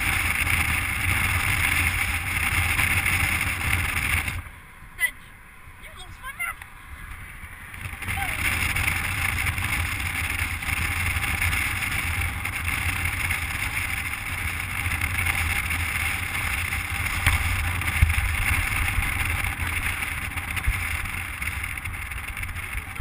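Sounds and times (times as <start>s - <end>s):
car road noise: 0.0s - 23.0s
wind buffeting microphone: 0.0s - 23.0s.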